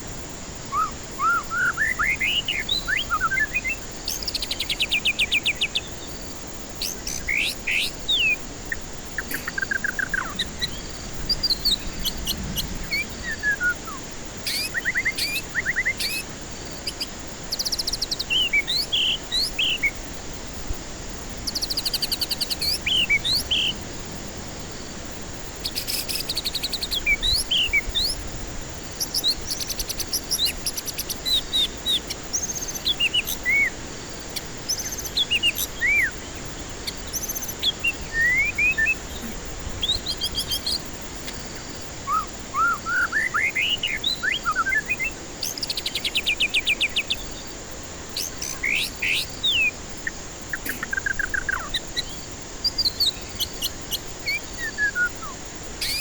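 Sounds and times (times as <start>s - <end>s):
steady high hiss: 0.0s - 56.0s
bird singing whistles and trills: 0.6s - 20.0s, 21.4s - 23.8s, 25.1s - 47.5s, 48.1s - 56.0s.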